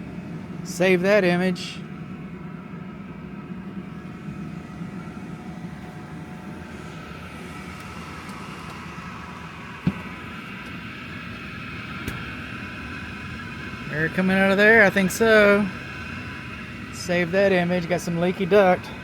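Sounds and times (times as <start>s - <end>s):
air handler humming: 0.0s - 19.0s.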